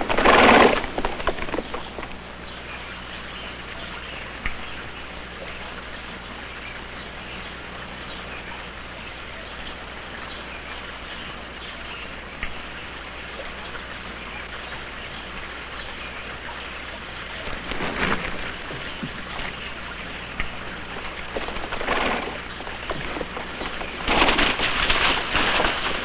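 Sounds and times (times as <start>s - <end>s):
film soundtrack hiss: 0.0s - 26.0s
low hum: 0.0s - 26.0s.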